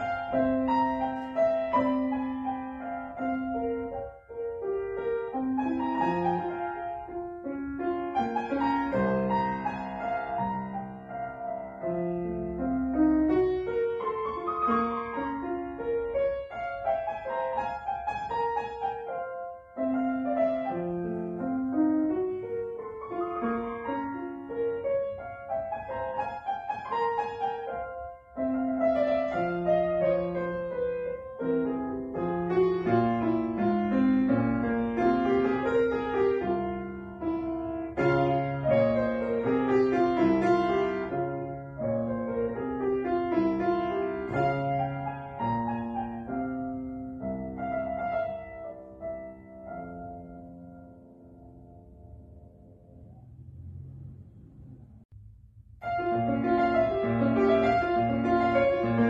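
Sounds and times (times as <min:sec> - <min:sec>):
solo grand piano piece: 0:00.0 - 0:59.0.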